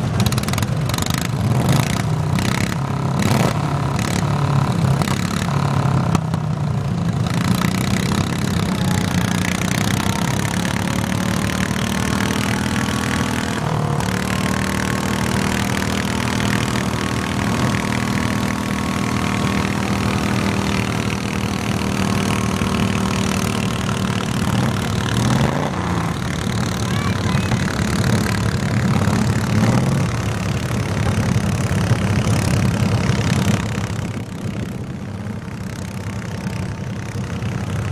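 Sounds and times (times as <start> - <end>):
garden tractor engine running: 0.0 - 37.9.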